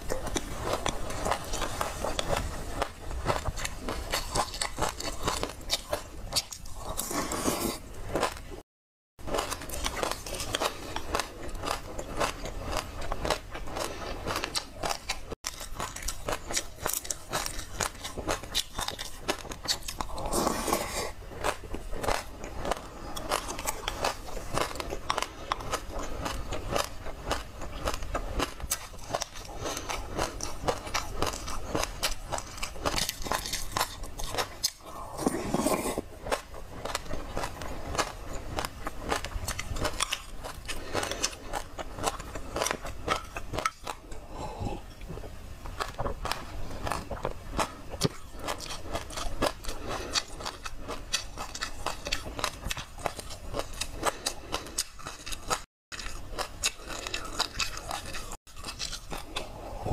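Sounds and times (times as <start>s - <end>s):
chewing and crunching: 0.0s - 8.6s, 9.2s - 59.9s.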